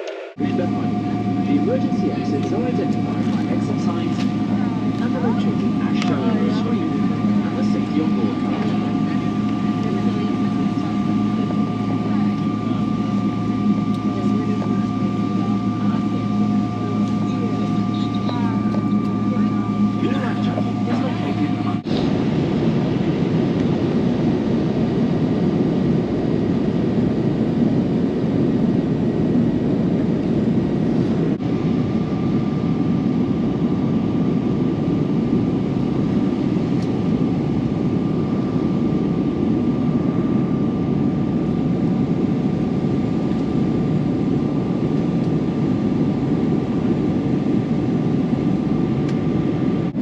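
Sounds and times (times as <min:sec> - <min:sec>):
faint steady whine: 0:00.0 - 0:50.0
jet engines roaring in cabin: 0:00.0 - 0:50.0.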